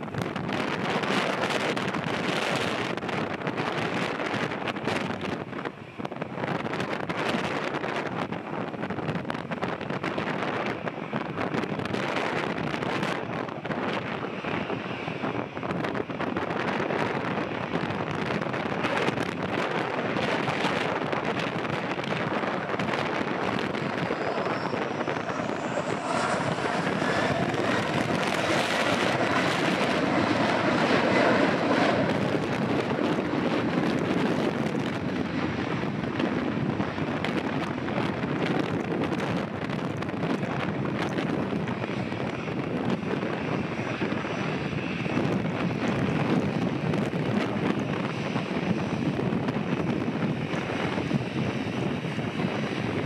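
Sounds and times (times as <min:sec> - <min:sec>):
jet engines roaring: 0:00.0 - 0:53.0
wind buffeting microphone: 0:00.0 - 0:53.0.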